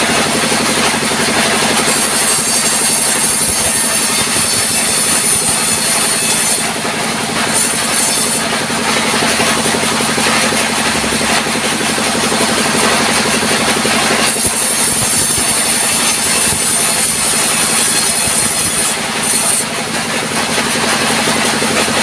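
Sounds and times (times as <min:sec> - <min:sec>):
circular saw cutting wood: 0:00.0 - 0:22.0
machinery drone: 0:00.0 - 0:22.0.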